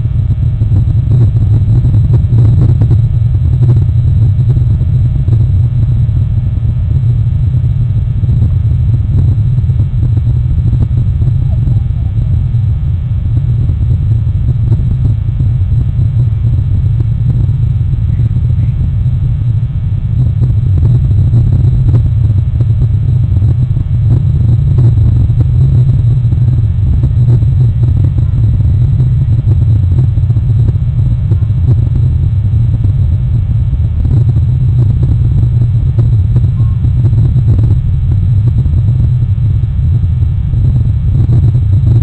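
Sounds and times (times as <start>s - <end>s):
loud low rumble: 0.0s - 42.0s.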